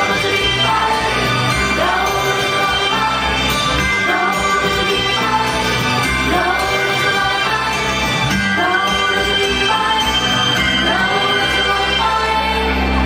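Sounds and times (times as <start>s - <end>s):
backing track with bass line: 0.0s - 13.0s
women singing pop song: 0.0s - 13.0s.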